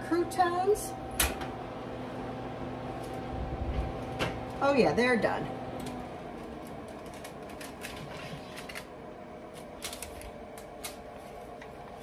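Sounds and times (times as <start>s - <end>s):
space heater noise: 0.0s - 12.0s.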